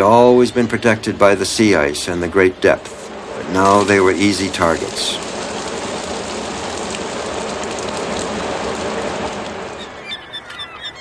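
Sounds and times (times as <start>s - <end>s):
rushing water: 0.0s - 10.1s.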